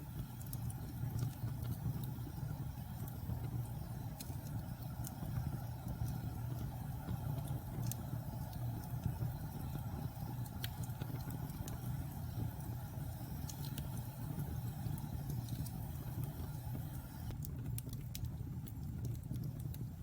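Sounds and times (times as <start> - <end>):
fire crackles and pops: 0.0 - 20.0
low roar of flames: 0.0 - 20.0.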